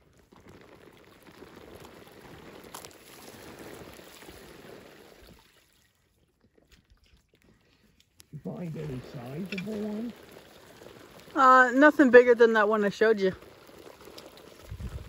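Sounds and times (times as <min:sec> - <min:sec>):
dirt trickling: 0:00.0 - 0:15.0.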